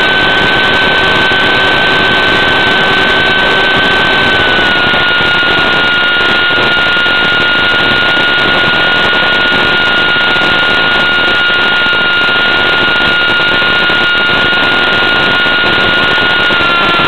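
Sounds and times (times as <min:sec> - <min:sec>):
high electric motor whine: 0:00.0 - 0:17.0
propeller and wind rush: 0:00.0 - 0:17.0.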